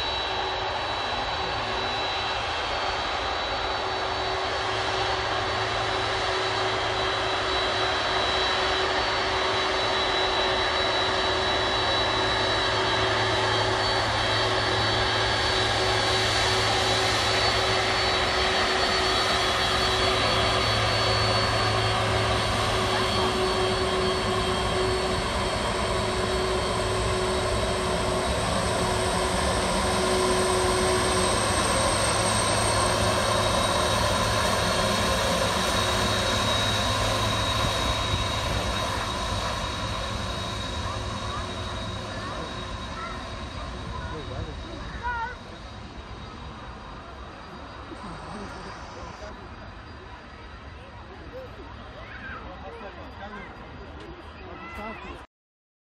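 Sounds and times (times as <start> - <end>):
jet engine whine at idle: 0.0 - 55.3.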